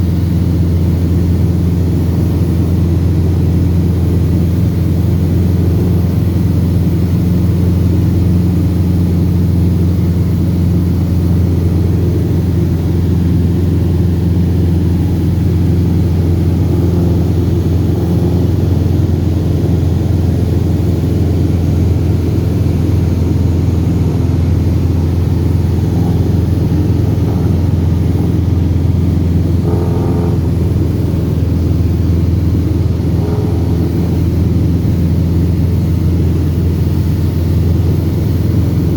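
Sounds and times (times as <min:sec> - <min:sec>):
airplane engine and propeller drone: 0:00.0 - 0:38.9.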